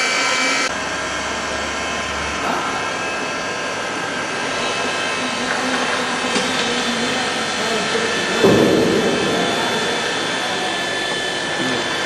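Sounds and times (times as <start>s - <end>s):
cutting machine running: 0.0s - 12.0s.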